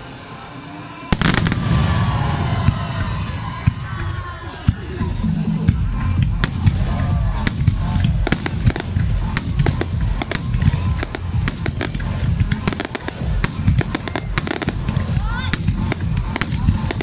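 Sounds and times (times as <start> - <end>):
fireworks bangs and crackles: 1.0 - 17.0
deep continuous rumble: 1.2 - 17.0.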